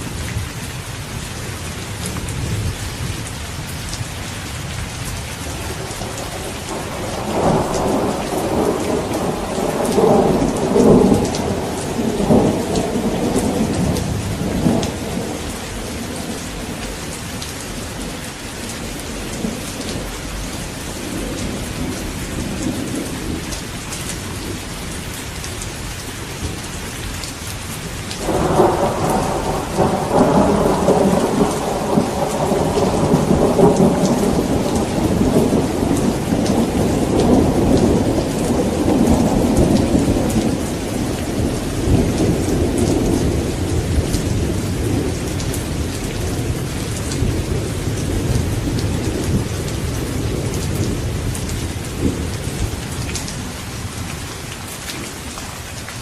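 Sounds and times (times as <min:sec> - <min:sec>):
heavy rain: 0:00.0 - 0:56.0
thunder rumbling: 0:05.4 - 0:25.0, 0:28.1 - 0:55.3.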